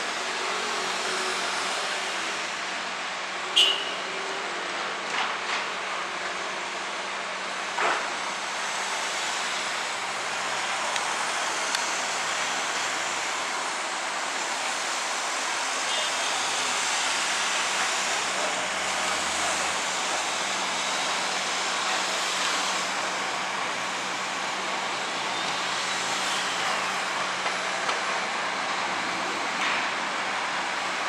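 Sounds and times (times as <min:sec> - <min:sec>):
city traffic noise: 0:00.0 - 0:31.0.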